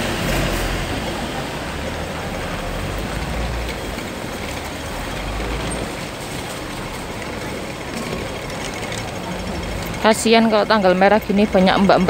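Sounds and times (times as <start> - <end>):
rain: 0.0 - 11.6
traffic rumble: 0.0 - 12.0.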